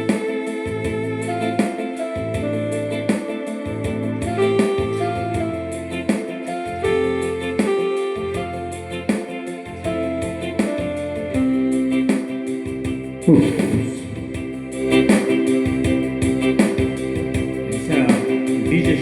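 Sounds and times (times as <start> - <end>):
electronic keyboard music: 0.0 - 19.0.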